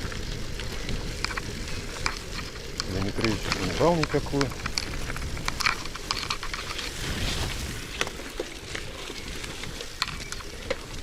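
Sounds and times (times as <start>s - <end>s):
small ticks and rattles: 0.0s - 7.0s, 7.9s - 11.0s
bicycle tyres hissing on wet ground: 0.0s - 11.0s
wind rumble on microphone: 0.0s - 11.0s.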